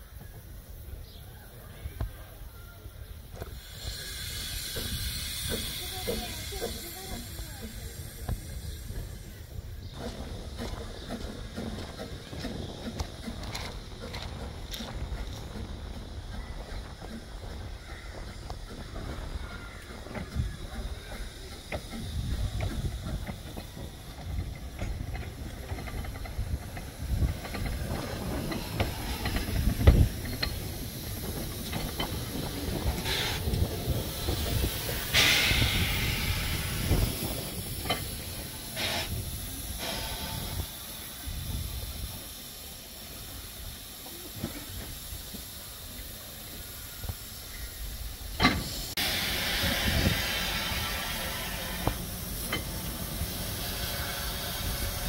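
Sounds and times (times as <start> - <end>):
steam hissing: 0.0 - 55.0.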